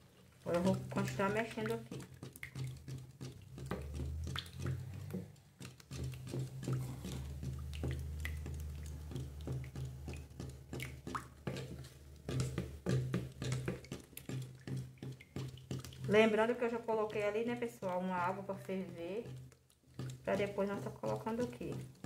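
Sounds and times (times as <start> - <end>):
spoon scraping plastic bucket: 0.0 - 22.0
thick mixture squishing: 0.0 - 22.0.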